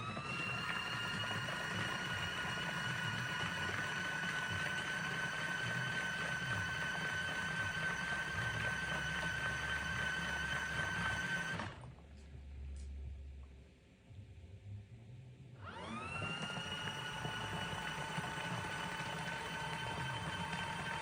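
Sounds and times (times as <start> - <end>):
washing machine motor whine: 0.0 - 12.0, 15.6 - 21.0.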